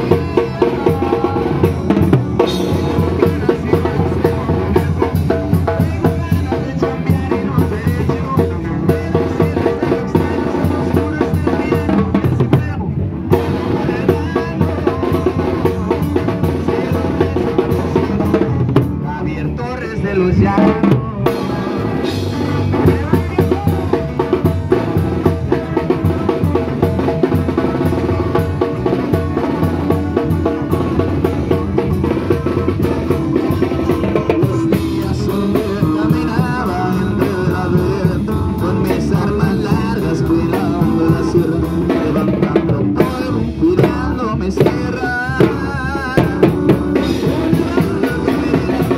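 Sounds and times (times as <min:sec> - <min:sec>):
drum rimshots: 0:00.0 - 0:19.1, 0:20.0 - 0:48.9
live band playing dance music: 0:00.0 - 0:48.9.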